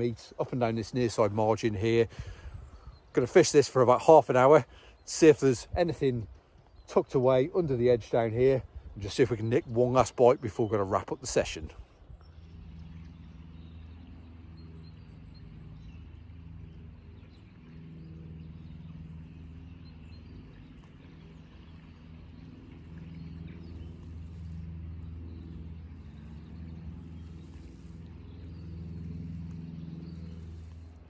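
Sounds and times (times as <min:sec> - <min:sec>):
low engine drone: 0:00.0 - 0:31.0.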